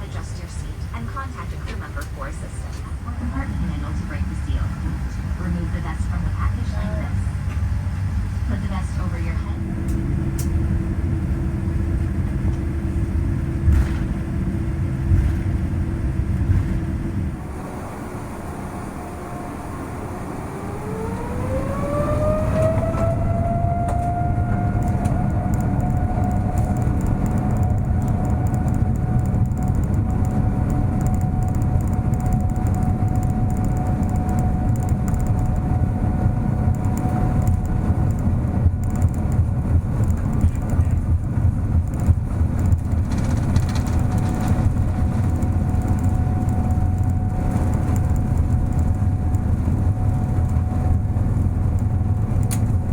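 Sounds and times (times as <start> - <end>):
jet engine whine: 0.0 - 52.9
takeoff roll rumble: 0.0 - 52.9.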